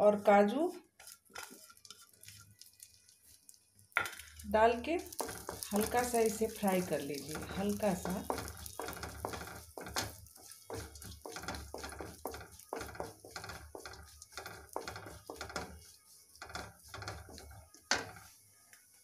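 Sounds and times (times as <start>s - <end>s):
wooden spatula scraping a pan: 0.0s - 3.5s, 4.4s - 19.0s
nuts frying in oil: 0.0s - 19.0s.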